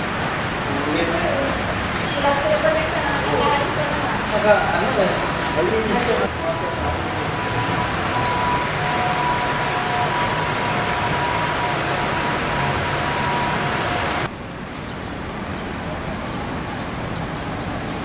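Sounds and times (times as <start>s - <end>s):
passing traffic: 0.0s - 18.0s.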